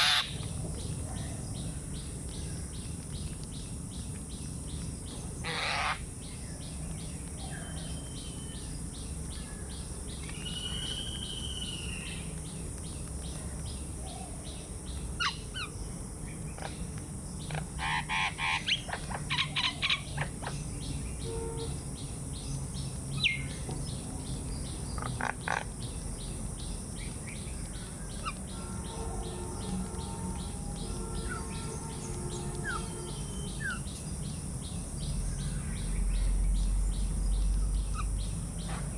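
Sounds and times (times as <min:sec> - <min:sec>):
wild birds chirping: 0:00.0 - 0:38.9.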